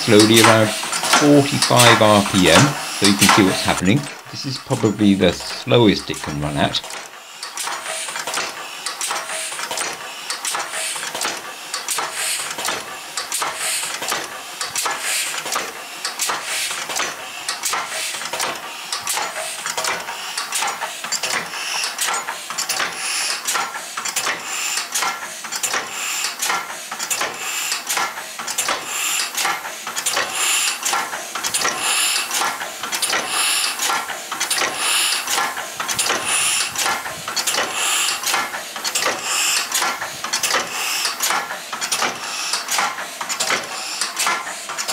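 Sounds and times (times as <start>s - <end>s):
hissy puffs of air: 0.0s - 4.2s, 7.3s - 44.8s
engine valves clicking and clanking: 0.0s - 44.9s.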